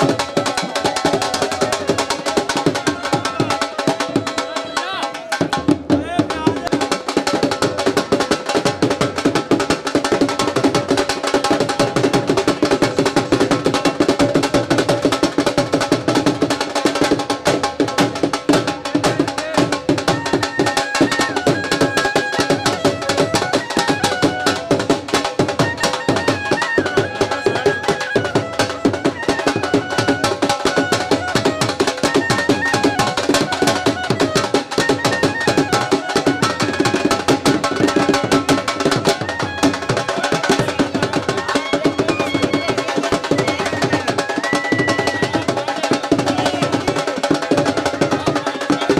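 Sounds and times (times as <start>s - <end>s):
fast drumming: 0.0s - 48.9s.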